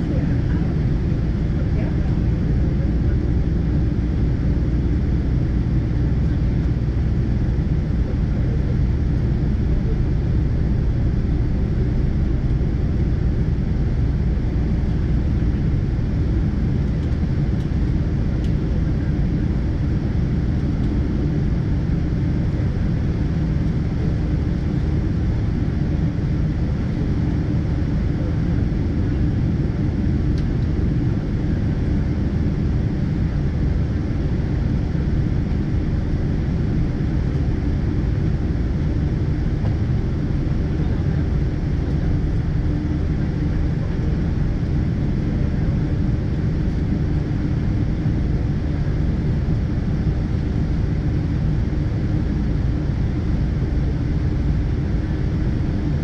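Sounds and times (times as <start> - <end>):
airplane engines rumbling in cabin: 0.0 - 56.0.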